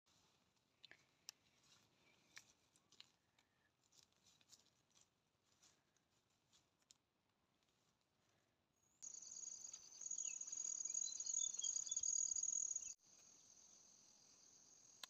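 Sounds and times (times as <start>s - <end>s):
dry leaves and twigs crackling: 0.1s - 8.0s, 9.0s - 13.8s.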